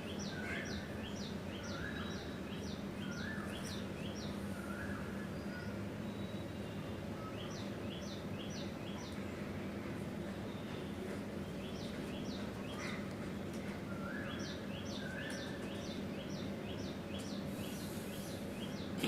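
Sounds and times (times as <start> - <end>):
low background hum: 0.0 - 19.0
small birds chirping: 0.0 - 19.0.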